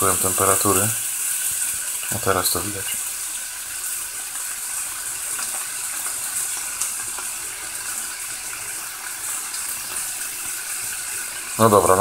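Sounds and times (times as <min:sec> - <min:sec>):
octopus sizzling in a frying pan: 0:00.0 - 0:12.0.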